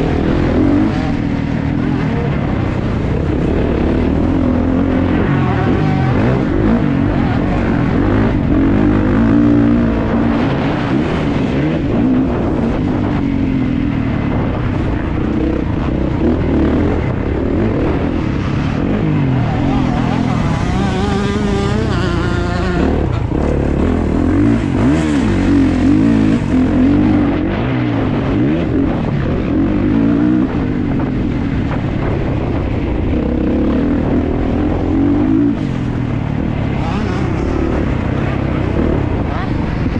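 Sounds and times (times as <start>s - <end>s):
motorcycle engine revving hard: 0.0s - 39.9s.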